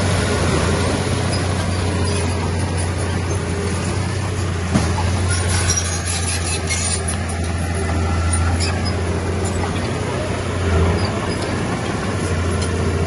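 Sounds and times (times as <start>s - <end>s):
heavy diesel engine humming: 0.0s - 13.0s.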